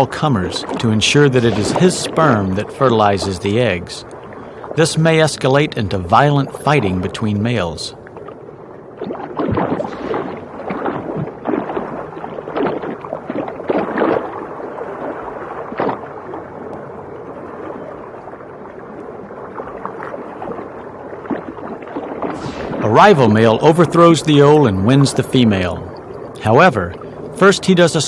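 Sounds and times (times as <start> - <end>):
water sloshing and bubbling: 0.0 - 28.0.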